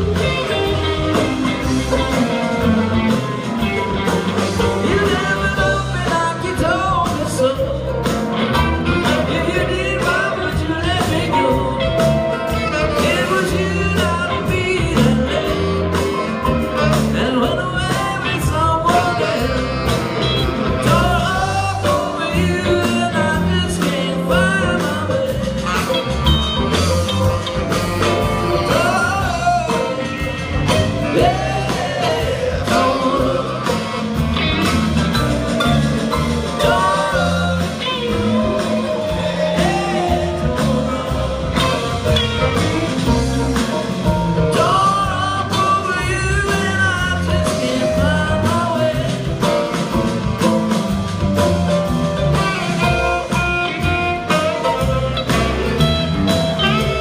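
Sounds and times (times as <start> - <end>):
lead vocal singing: 0.0 - 57.0
live rock band playing: 0.0 - 57.0.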